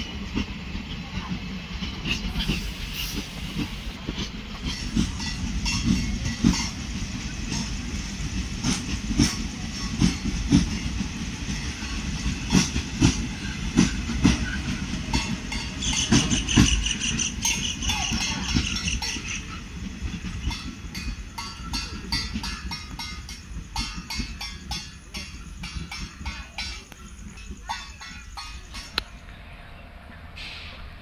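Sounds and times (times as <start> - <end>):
wheels clattering over rail joints: 0.0 - 29.3
train coaches rumbling past: 0.0 - 31.0.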